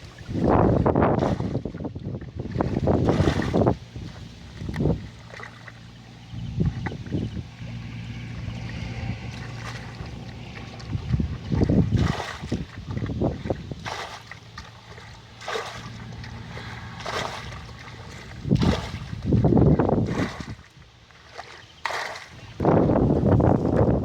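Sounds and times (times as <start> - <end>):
low steady hum: 0.0 - 24.0
water splashing and sloshing: 0.0 - 24.0.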